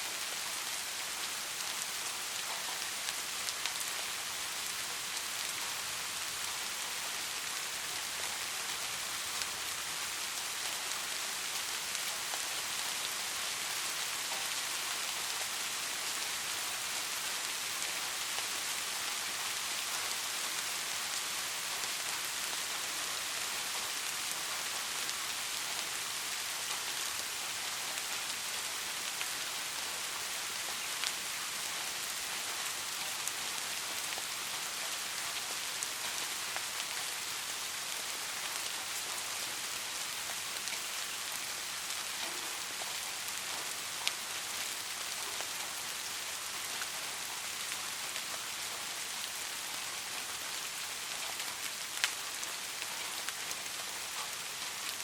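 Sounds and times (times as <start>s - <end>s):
soft steady rain: 0.0s - 55.0s.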